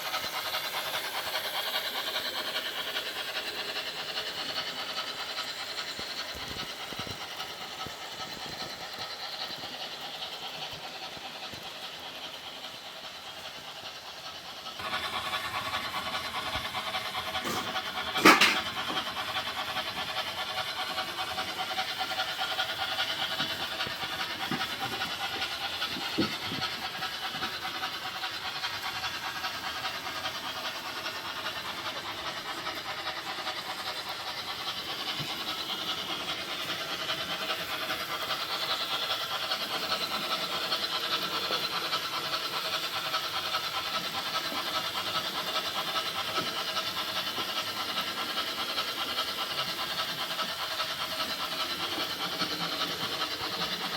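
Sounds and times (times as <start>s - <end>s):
model train whirring on track: 0.0s - 53.9s
wheels clicking over rail joints: 0.0s - 53.9s.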